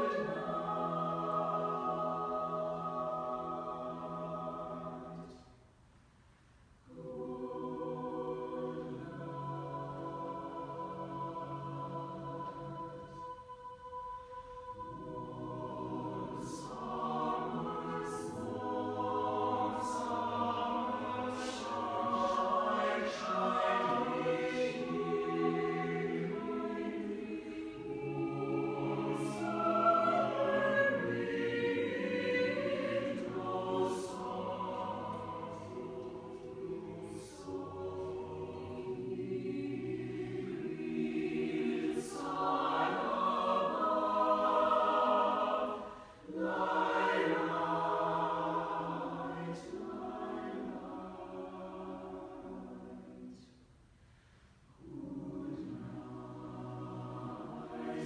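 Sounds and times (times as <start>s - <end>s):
choir singing: 0.0s - 5.6s, 6.9s - 53.7s, 54.7s - 58.0s.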